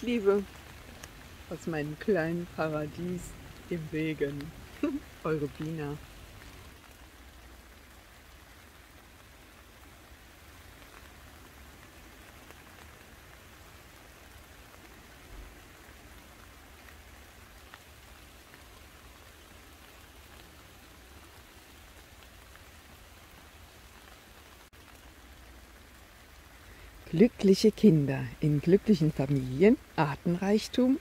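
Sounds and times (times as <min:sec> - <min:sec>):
drops ticking on leaves: 0:00.0 - 0:31.0
rain on plants: 0:00.0 - 0:31.0.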